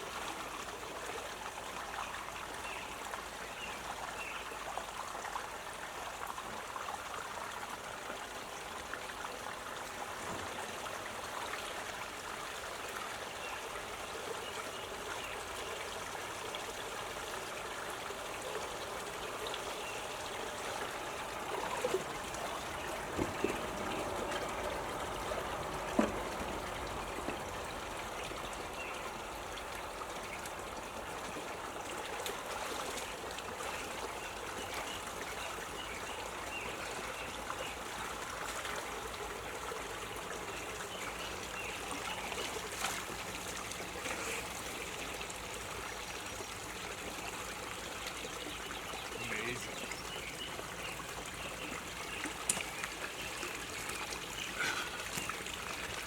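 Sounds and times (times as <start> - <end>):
water running and trickling: 0.0 - 56.0.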